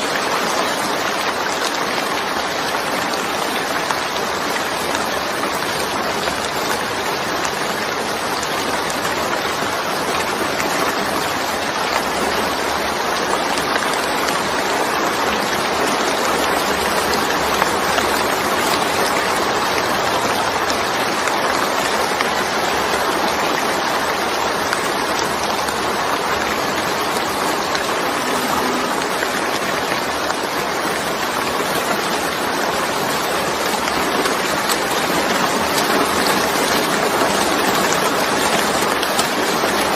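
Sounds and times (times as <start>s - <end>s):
heavy rain hissing: 0.0s - 39.9s
rushing water: 0.0s - 39.9s.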